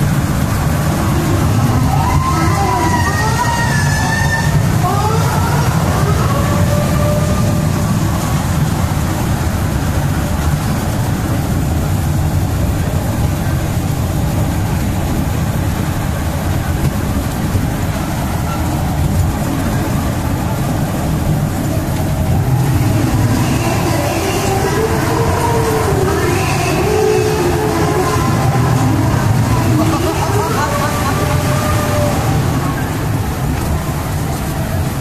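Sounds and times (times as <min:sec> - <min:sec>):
ride train rumbling on track: 0:00.0 - 0:35.0.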